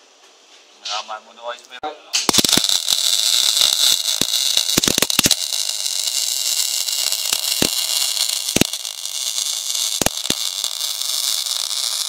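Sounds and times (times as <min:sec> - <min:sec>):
spatter pops: 0:02.1 - 0:12.0
welding arc crackling hiss: 0:02.2 - 0:12.0.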